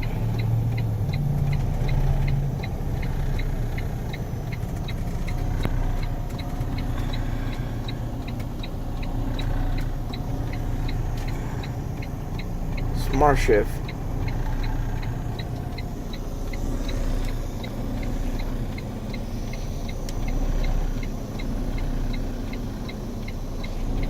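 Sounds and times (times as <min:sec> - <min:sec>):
diesel truck engine droning: 0:00.0 - 0:24.0
fast high ticking: 0:00.0 - 0:24.0.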